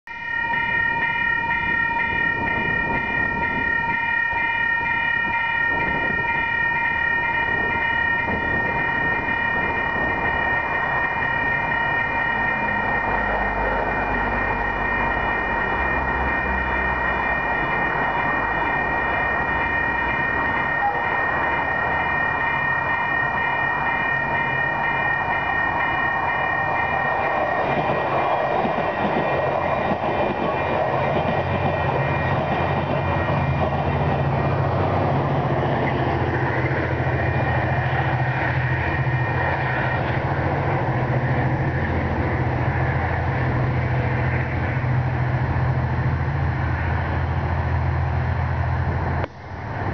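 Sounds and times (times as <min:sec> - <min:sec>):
high multi-pitch ringing tone: 0:00.1 - 0:45.2
diesel train engine rumble: 0:00.1 - 0:49.9
rail noise: 0:00.1 - 0:49.9.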